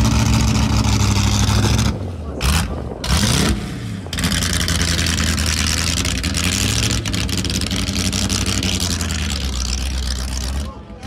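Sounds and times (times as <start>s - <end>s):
race car engine revving: 0.0s - 11.0s.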